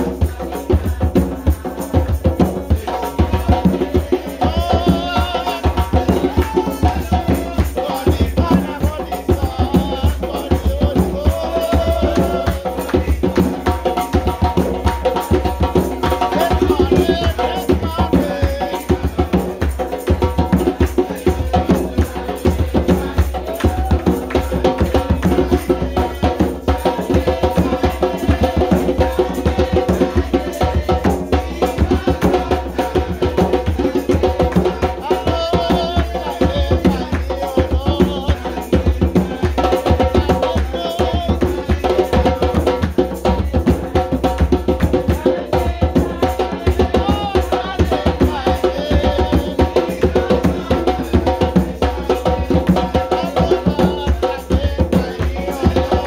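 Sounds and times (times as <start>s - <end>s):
hand drums beating: 0.0s - 56.0s
other percussion: 0.0s - 56.0s.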